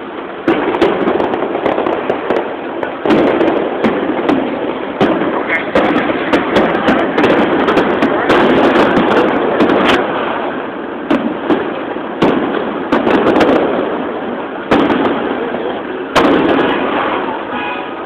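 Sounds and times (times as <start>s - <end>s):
fireworks bursting with bangs: 0.0s - 18.0s
rolling rumble of fireworks: 0.0s - 18.0s.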